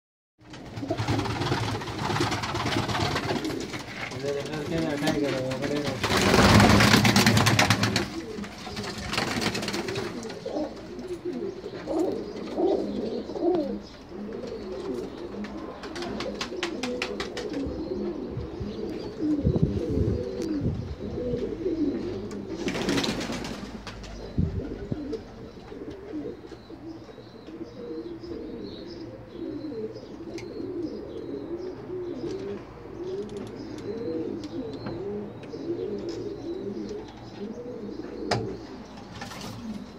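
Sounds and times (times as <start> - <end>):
pigeons cooing: 0.4 - 39.9.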